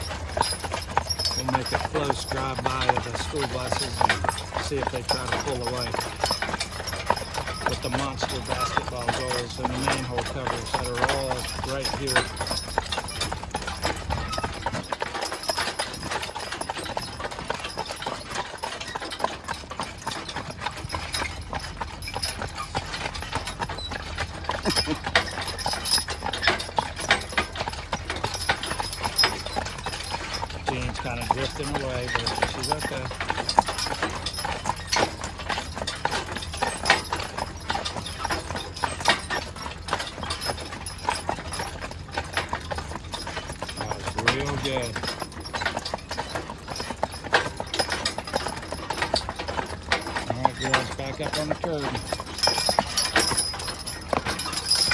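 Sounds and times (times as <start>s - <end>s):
horse hooves clip-clopping on pavement: 0.0s - 54.9s.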